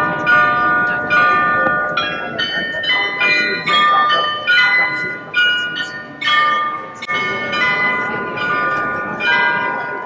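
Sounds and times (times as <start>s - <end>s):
bells ringing: 0.0s - 10.0s.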